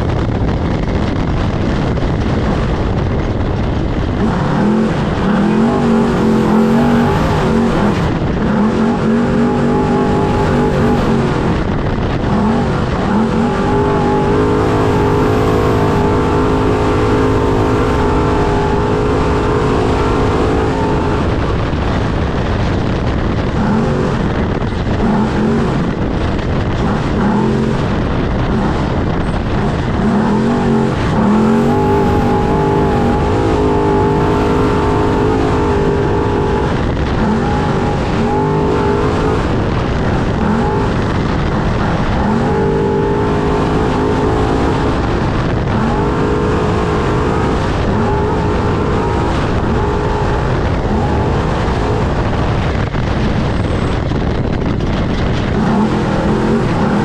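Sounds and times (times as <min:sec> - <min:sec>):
truck engine revving: 0:00.0 - 0:57.0
wind noise: 0:00.0 - 0:57.0.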